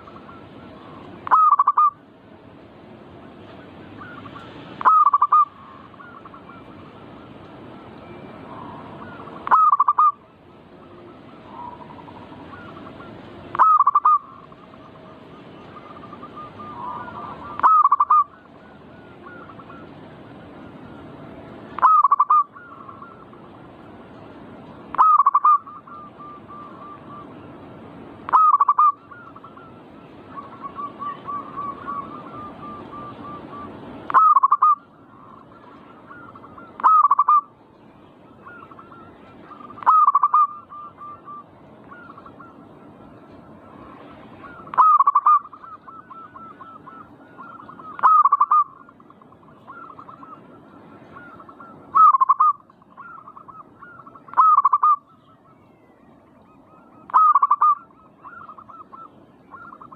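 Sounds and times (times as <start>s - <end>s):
doves cooing: 0.0s - 2.1s, 3.5s - 59.9s.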